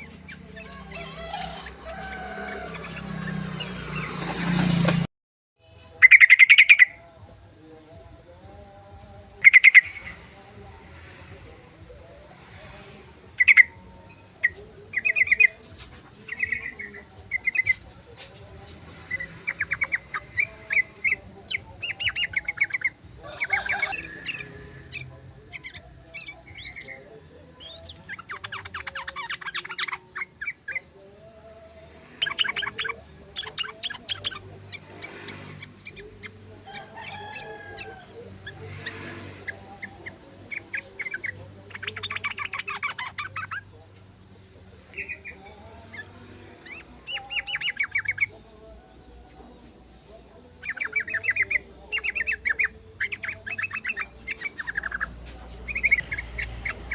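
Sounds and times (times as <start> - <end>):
bulbuls trilling: 0.0 - 5.0, 5.7 - 56.9.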